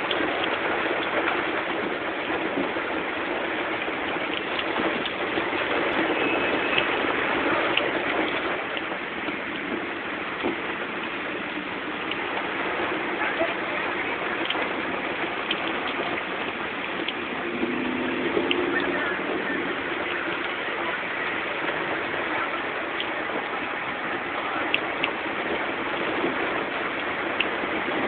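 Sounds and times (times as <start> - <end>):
heavy rain on car and pavement: 0.0 - 28.0.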